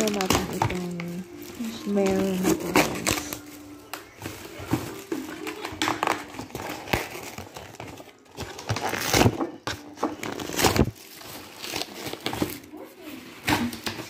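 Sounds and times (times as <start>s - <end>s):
tissue paper crinkling and rustling: 0.0s - 14.0s.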